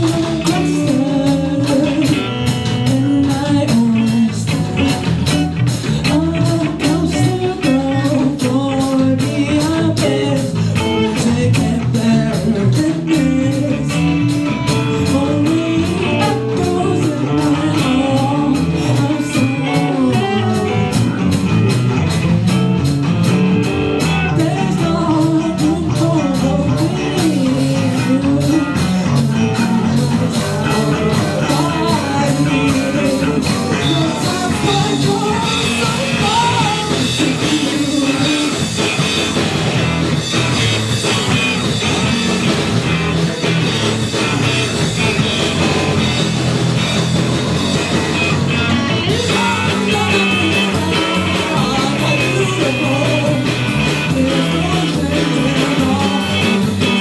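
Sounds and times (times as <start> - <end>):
person singing: 0.0 - 22.6, 23.6 - 42.3, 48.1 - 57.0
live rock band playing: 0.0 - 57.0.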